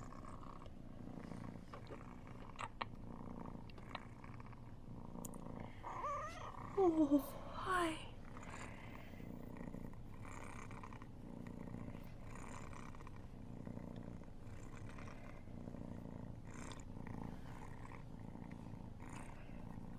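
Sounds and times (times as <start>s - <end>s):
cat purring: 0.0s - 19.9s.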